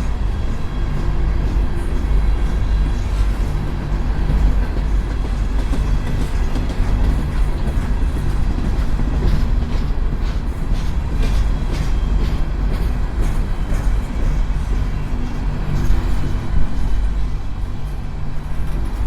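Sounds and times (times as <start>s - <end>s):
train low rumble: 0.0s - 19.0s
train wheels clattering on rails: 0.0s - 19.0s.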